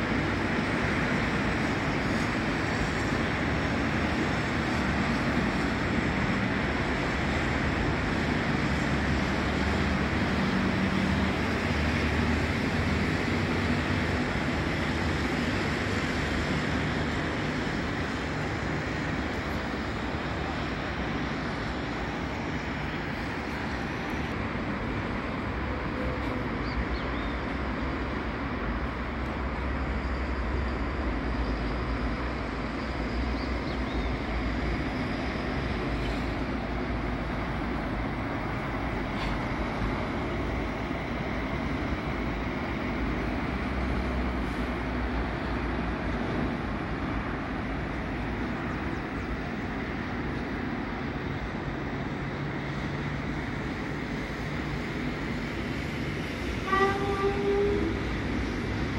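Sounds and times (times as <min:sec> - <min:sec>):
truck engine rumble: 0:00.0 - 0:58.9.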